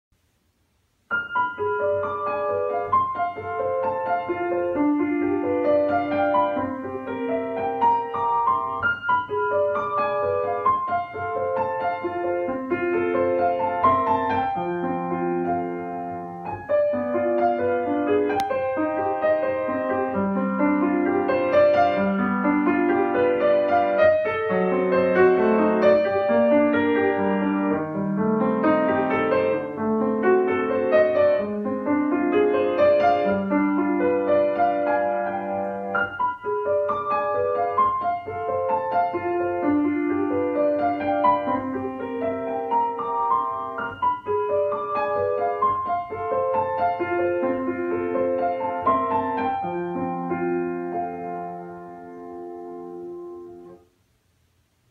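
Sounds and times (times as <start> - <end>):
classical piano piece: 0.2 - 54.9.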